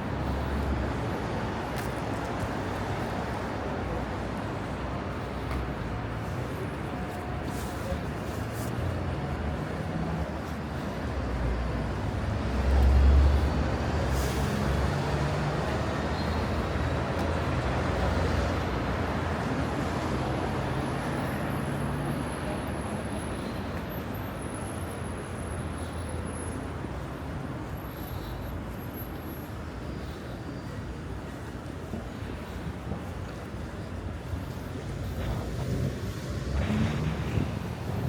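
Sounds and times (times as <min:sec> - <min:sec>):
passing vehicles: 0:00.0 - 0:38.0.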